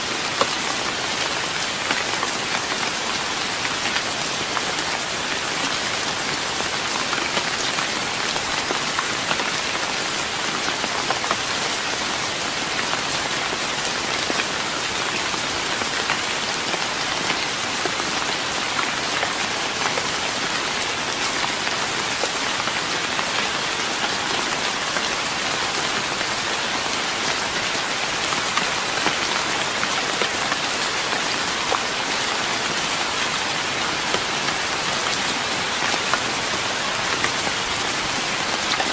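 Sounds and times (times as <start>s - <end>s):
rain on a wooden deck: 0.0s - 38.9s.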